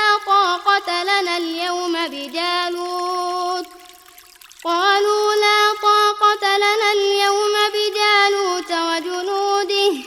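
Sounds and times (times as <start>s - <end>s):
chanted recitation: 0.0s - 3.8s, 4.7s - 10.0s
faint water sound: 0.0s - 10.0s.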